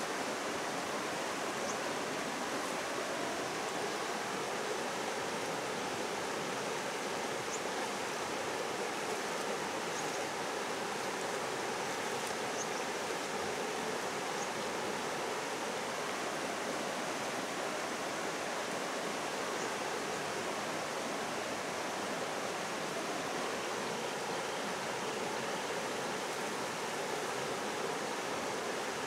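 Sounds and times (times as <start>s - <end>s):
stream flowing over rocks: 0.0s - 29.0s.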